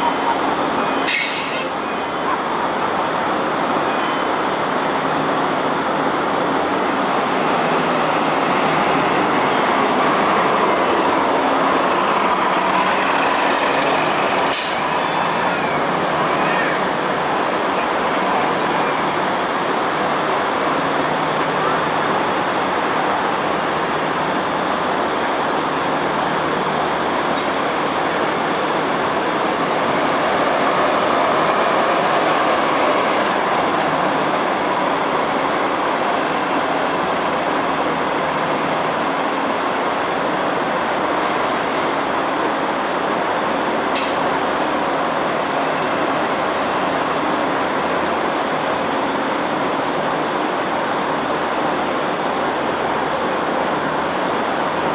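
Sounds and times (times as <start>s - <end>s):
bus engine running: 0.0s - 54.9s
street traffic: 0.0s - 54.9s.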